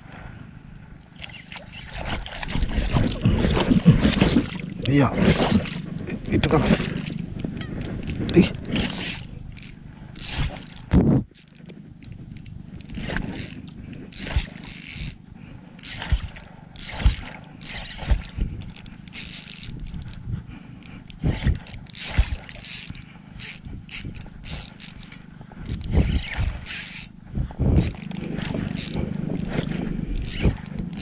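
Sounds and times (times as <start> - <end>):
fishing reel clicking and whirring: 1.3 - 31.0.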